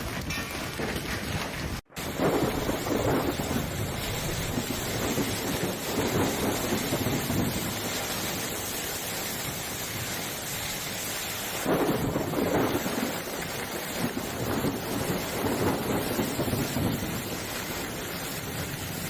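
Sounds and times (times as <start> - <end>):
heavy rain: 0.0 - 19.0
wind: 0.0 - 19.0.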